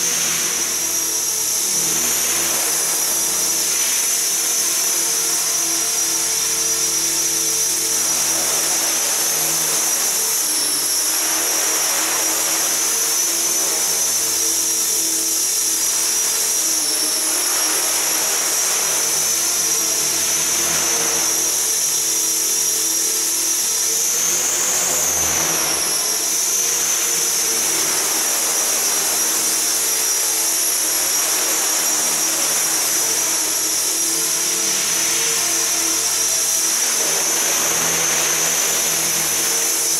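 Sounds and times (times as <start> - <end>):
electric motor high whine: 0.0 - 39.9
rotor blades whirring: 0.0 - 39.9.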